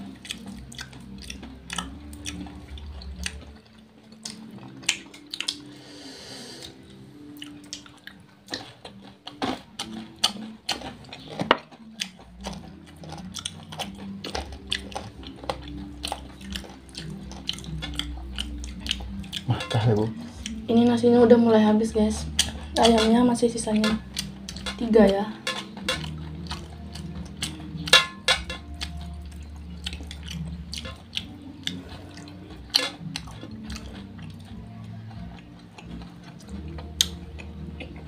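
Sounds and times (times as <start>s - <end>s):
wet chewing and lip-smacking: 0.0s - 5.8s, 6.6s - 20.6s, 22.2s - 23.0s, 23.8s - 24.8s, 25.4s - 38.0s.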